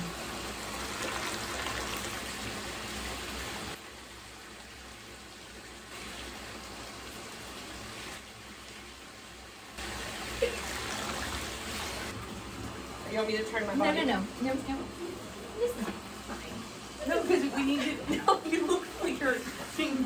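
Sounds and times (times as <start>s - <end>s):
bath water hissing: 0.0s - 20.0s.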